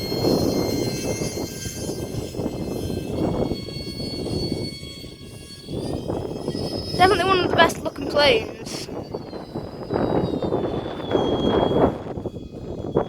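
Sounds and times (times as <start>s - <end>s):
model jet fans whining: 0.0s - 13.0s
wind rumble on microphone: 0.0s - 13.0s.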